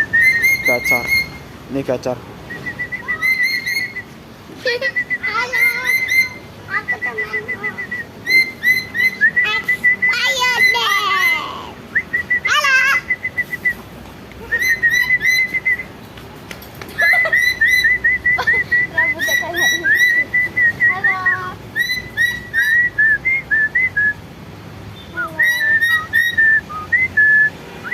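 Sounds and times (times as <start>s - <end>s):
parrot whistled chirps: 0.0s - 1.4s, 2.5s - 4.2s, 4.8s - 13.8s, 14.5s - 15.9s, 17.0s - 24.2s, 25.1s - 27.9s.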